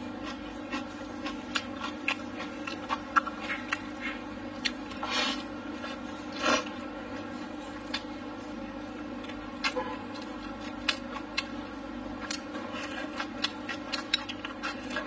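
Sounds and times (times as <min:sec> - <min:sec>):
steady hum: 0:00.0 - 0:15.0
wet chewing: 0:00.2 - 0:08.2, 0:09.2 - 0:15.0.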